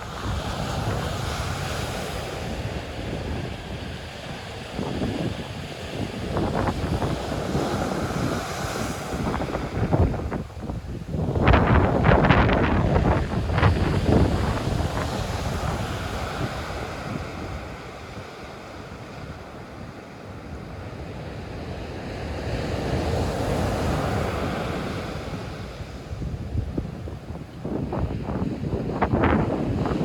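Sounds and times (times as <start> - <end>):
sea waves breaking on beach: 0.0 - 30.0
wind buffeting the microphone: 0.0 - 30.0.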